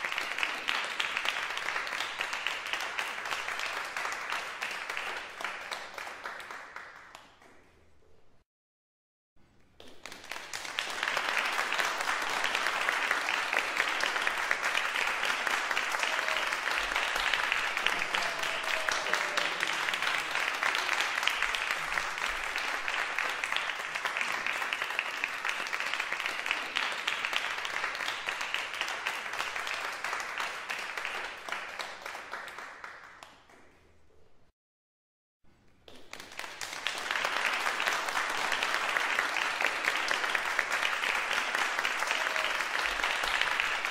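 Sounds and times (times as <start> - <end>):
crowd applauding: 0.0 - 7.5, 9.8 - 33.6, 35.9 - 43.9.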